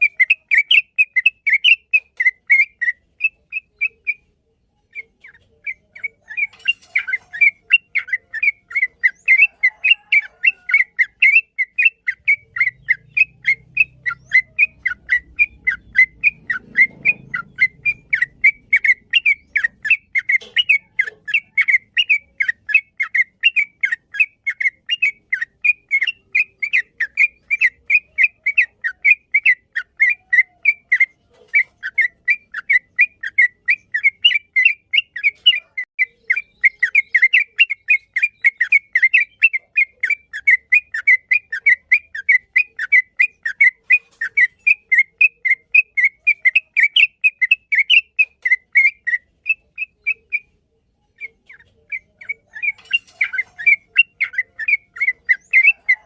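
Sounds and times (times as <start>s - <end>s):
bird singing whistled chirps: 0.0s - 56.0s.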